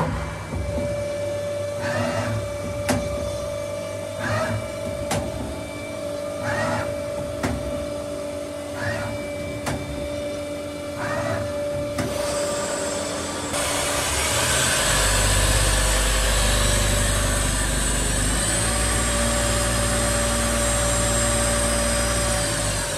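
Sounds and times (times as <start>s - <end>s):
deep loud whirring: 0.0s - 22.9s
lathe steady tone: 0.0s - 22.9s.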